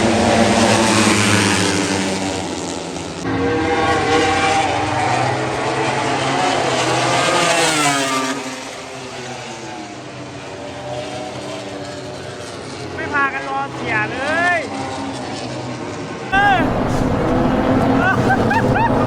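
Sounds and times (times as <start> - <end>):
racing motorcycle engines screaming: 0.0 - 15.0, 16.3 - 19.0.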